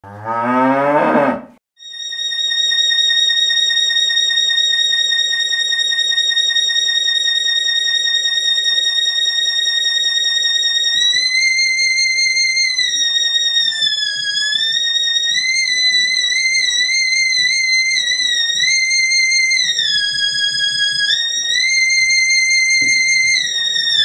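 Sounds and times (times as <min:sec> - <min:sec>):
high synthesizer tone with vibrato: 0:01.8 - 0:24.0.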